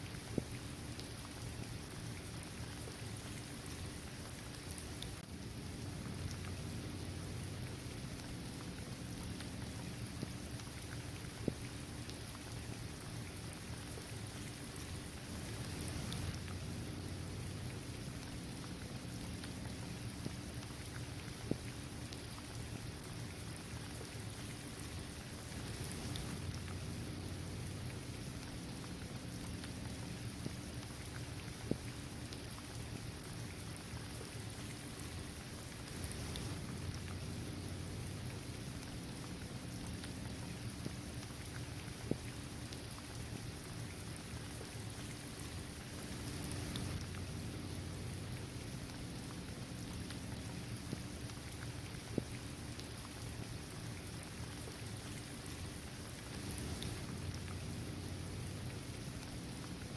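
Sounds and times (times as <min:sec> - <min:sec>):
drip ticks: 0:00.0 - 0:59.9
rain falling on pavement: 0:00.0 - 0:59.9.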